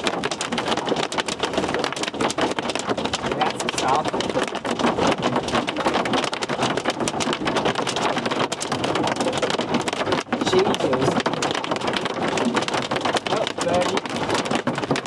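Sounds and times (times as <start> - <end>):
hailstones pelting a vehicle: 0.0 - 15.0.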